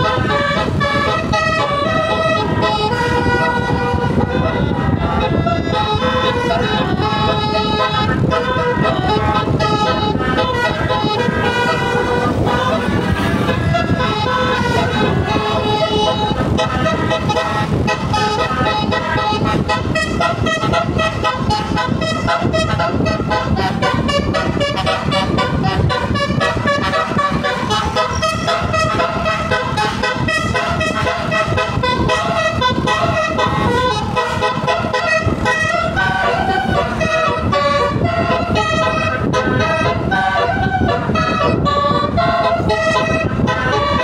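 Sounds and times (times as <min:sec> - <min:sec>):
melodic bus horn playing tune: 0:00.0 - 0:44.0.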